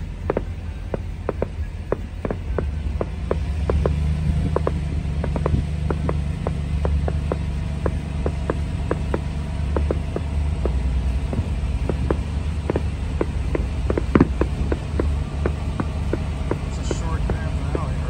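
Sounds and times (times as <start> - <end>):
traffic rumble on a bridge: 0.0 - 18.0.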